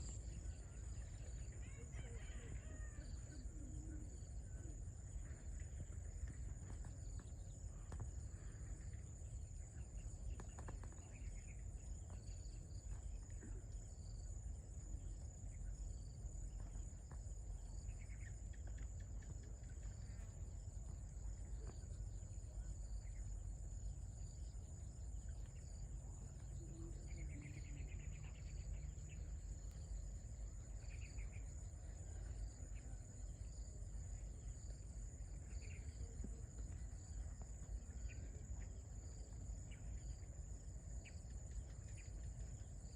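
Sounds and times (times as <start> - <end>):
insect chorus: 0.0 - 42.9.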